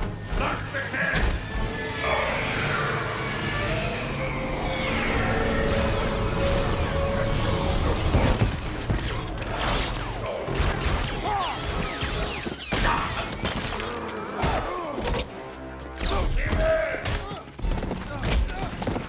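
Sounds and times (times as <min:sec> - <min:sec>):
film score music: 0:00.0 - 0:19.0.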